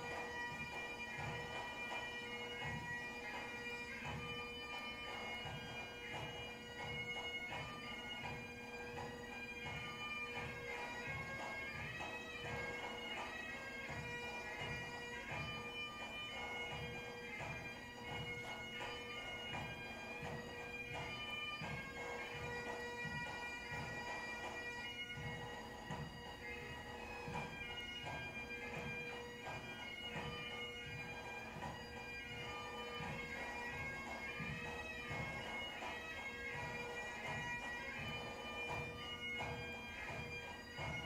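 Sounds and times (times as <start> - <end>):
bagpipe music: 0.0 - 41.0.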